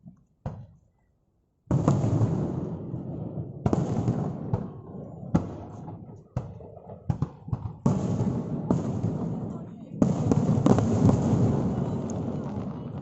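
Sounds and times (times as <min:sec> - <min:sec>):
firework booms: 0:01.7 - 0:13.0.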